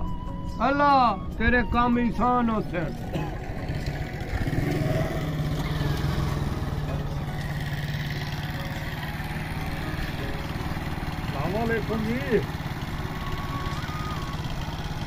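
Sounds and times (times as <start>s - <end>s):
small motorcycle engine running: 2.9s - 15.0s.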